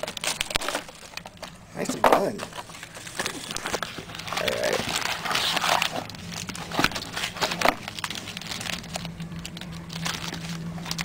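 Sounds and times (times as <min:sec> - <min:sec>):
card pack wrappers crinkling: 0:00.0 - 0:11.0
steady low hum: 0:00.0 - 0:11.0.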